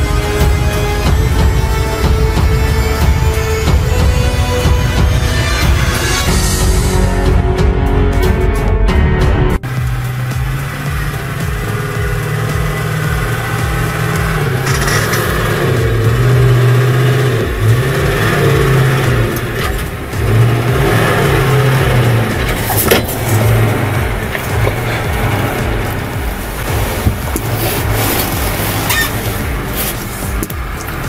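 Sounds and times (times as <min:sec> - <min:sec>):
diesel engine revving: 0:00.0 - 0:08.5, 0:09.3 - 0:31.0.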